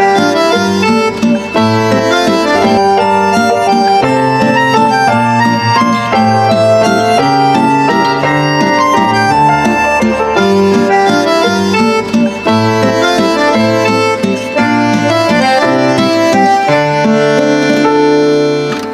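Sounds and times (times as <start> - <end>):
instrumental background music: 0.0 - 18.9.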